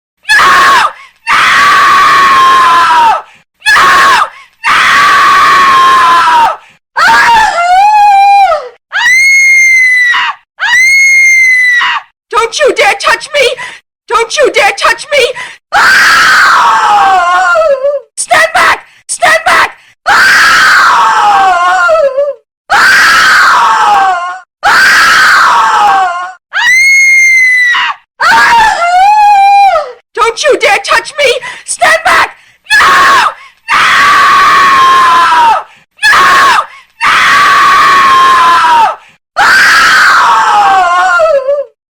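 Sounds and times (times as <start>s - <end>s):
woman screaming: 0.3s - 12.1s, 15.8s - 18.7s, 19.5s - 30.0s, 31.8s - 41.8s.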